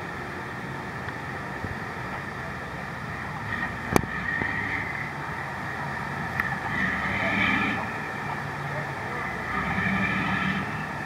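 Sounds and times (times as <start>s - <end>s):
boat engine running: 0.0s - 11.0s
water noise: 0.0s - 11.0s
wind: 0.0s - 11.0s.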